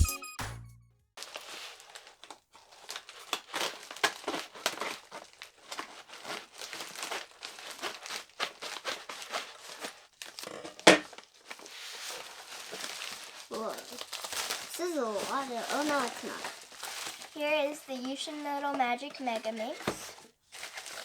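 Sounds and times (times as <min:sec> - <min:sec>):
packaging crinkling and tearing: 0:01.2 - 0:21.0.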